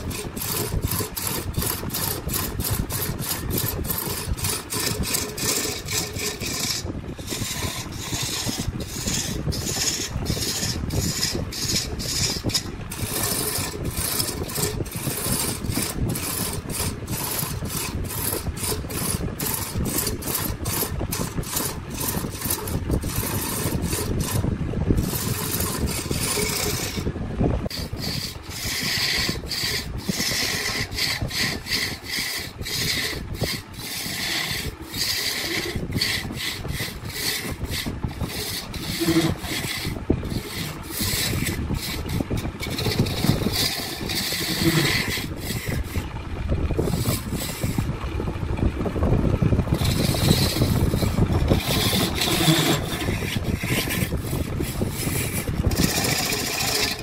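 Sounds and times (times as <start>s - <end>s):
tool scraping wood: 0.0s - 48.0s, 49.6s - 57.0s
steady low hum: 0.0s - 57.0s.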